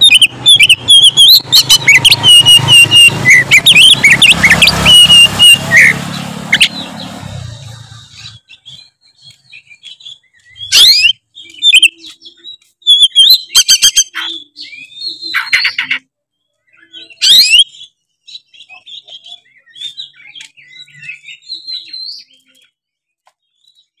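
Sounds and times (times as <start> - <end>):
songbird whistling and trilling: 0.0 - 22.7.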